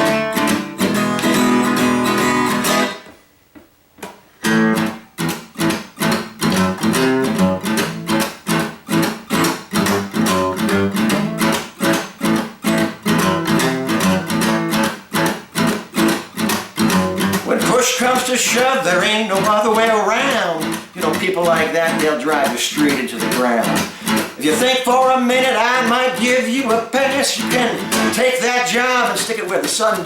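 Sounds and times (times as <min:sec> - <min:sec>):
acoustic guitar strumming blues: 0:00.0 - 0:03.2, 0:04.4 - 0:30.0.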